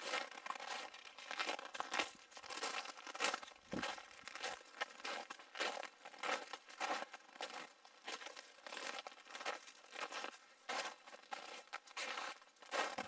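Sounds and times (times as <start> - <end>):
footsteps crunching dry brush: 0.0 - 13.0.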